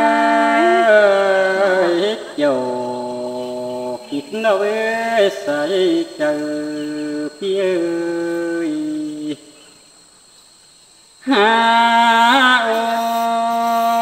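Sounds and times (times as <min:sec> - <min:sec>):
person singing long notes: 0:00.0 - 0:09.5, 0:11.2 - 0:14.0.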